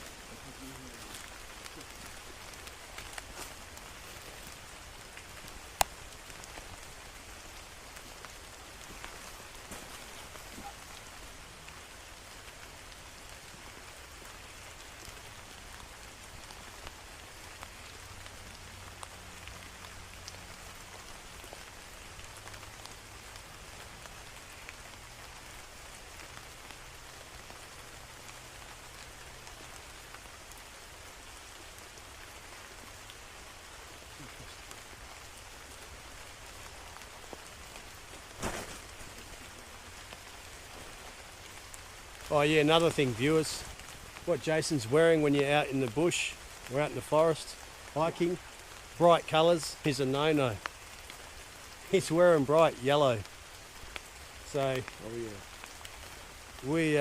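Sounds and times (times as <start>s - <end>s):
raindrops ticking: 0.0s - 57.0s
steady rain falling: 0.0s - 57.0s.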